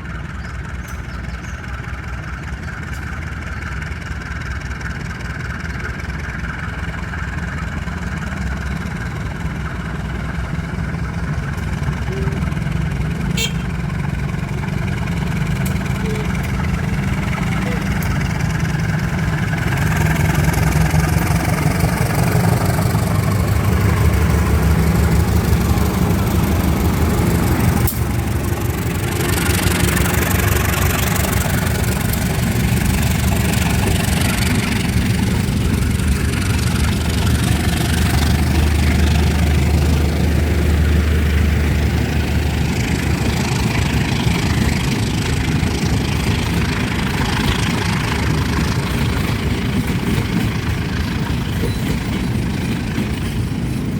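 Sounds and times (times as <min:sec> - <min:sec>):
diesel locomotive engine idling: 0:00.0 - 0:53.9.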